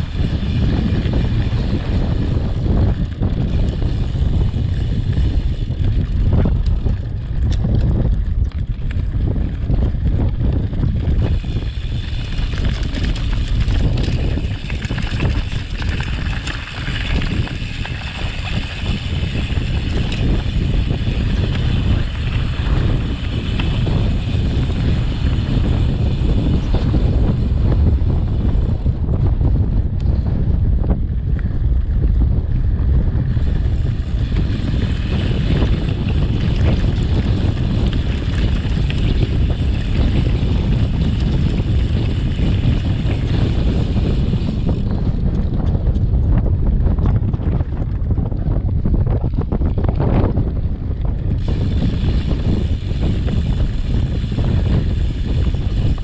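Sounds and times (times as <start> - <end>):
bike rumbling over rocky trail: 0.0 - 29.6, 30.8 - 56.0
wind buffeting microphone: 0.0 - 56.0.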